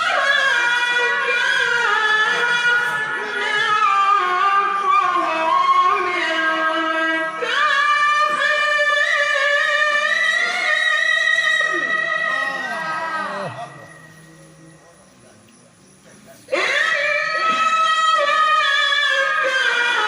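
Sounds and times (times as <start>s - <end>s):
man reciting melodically: 0.0s - 20.0s.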